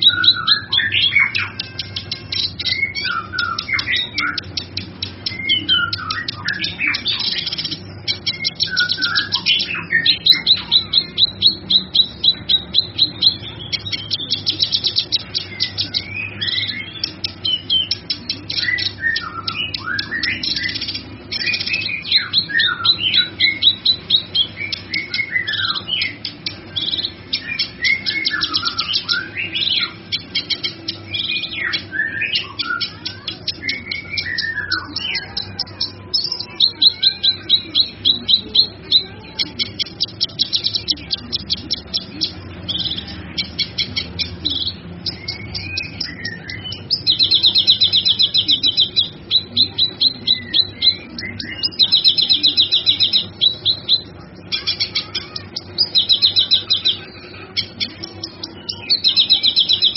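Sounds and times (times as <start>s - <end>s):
songbird singing trills and whistles: 0.0s - 59.9s.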